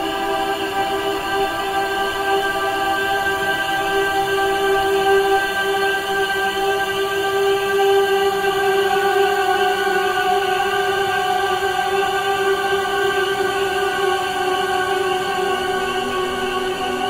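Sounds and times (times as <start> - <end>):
choral pad chord: 0.0 - 17.0.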